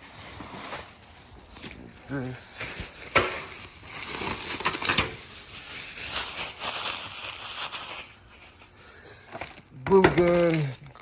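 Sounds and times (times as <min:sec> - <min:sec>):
rustling while rummaging: 0:00.0 - 0:11.0.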